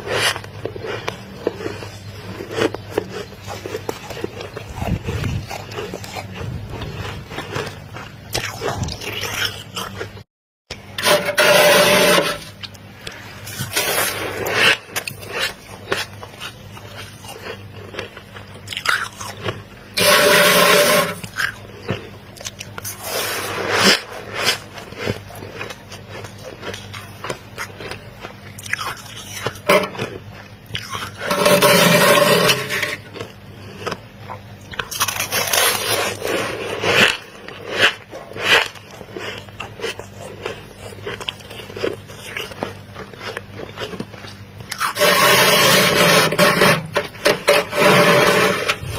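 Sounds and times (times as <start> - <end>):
frost crunching: 0.0 - 10.2, 11.0 - 48.9
low steady hum: 0.0 - 48.9.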